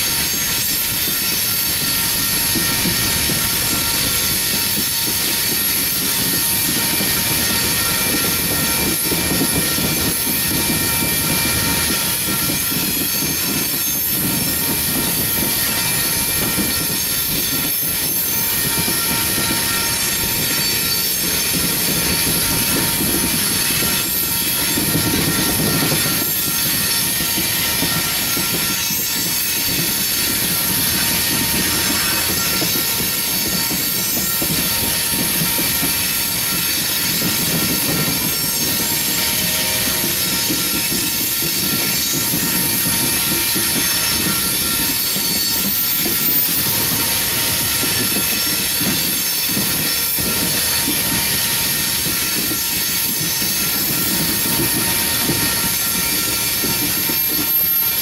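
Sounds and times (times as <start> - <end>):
train wheels rumbling on rail: 0.0 - 58.0
high-pitched wheel squeal: 0.1 - 58.0.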